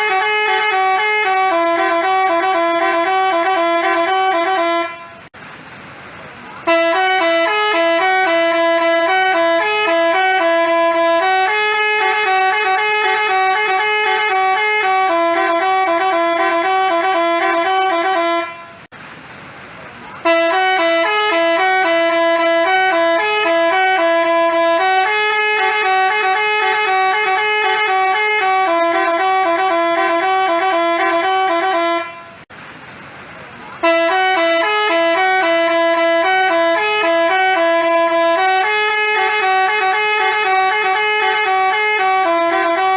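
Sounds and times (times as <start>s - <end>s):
multi-tone horn playing a tune: 0.0s - 5.3s, 6.6s - 18.9s, 20.2s - 32.4s, 33.8s - 42.9s.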